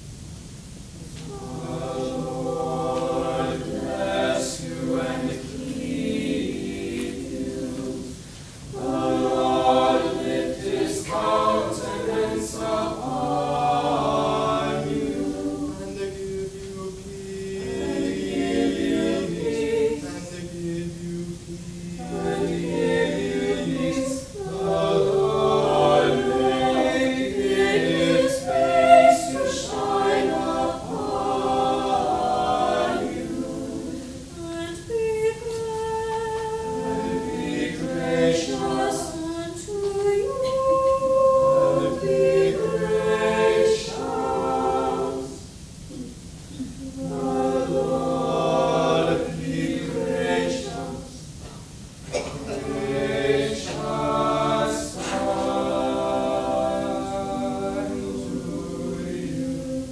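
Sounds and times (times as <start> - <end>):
vocal ensemble singing a cappella: 0.0 - 59.9.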